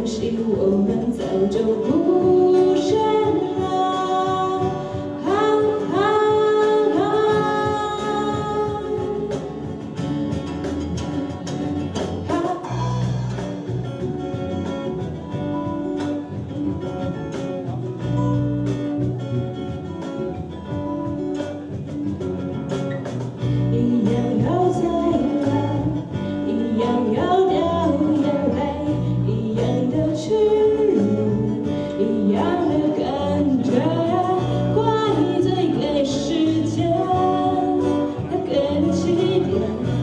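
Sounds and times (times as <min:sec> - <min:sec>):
bass line: 0:00.0 - 0:40.0
drums: 0:00.0 - 0:40.0
guitars: 0:00.0 - 0:40.0
live band playing: 0:00.0 - 0:40.0.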